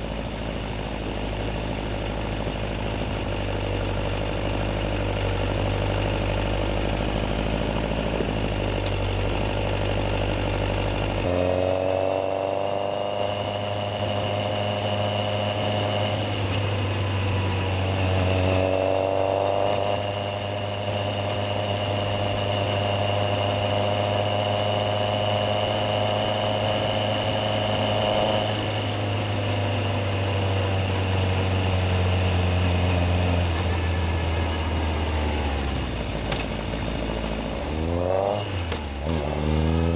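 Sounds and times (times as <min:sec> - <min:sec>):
motorcycle engine idling and accelerating: 0:00.0 - 0:39.9.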